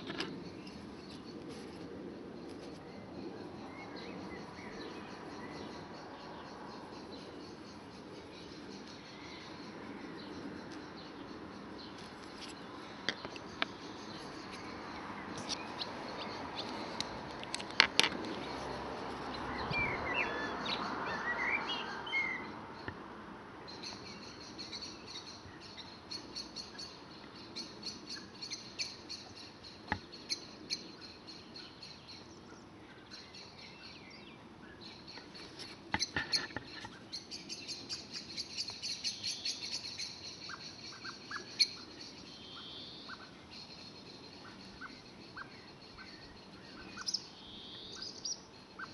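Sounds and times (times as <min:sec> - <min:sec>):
small birds chirping and twittering: 0:00.0 - 0:48.9.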